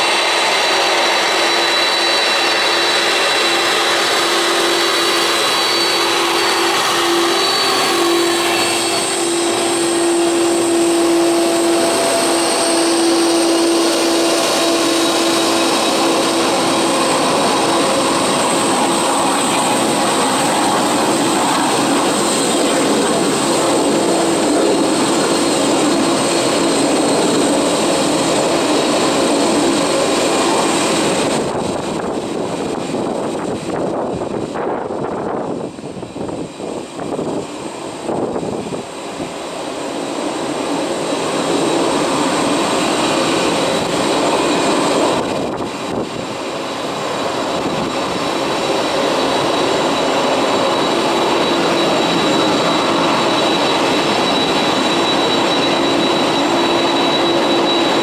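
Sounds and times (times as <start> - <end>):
jet engines of taxiing airliner: 0.0 - 58.0.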